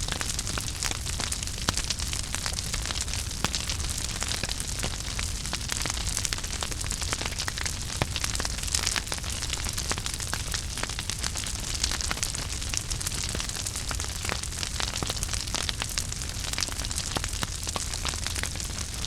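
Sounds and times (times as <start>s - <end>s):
fire rumbling and hissing: 0.0s - 19.0s
wood fire crackling and popping: 0.0s - 19.0s.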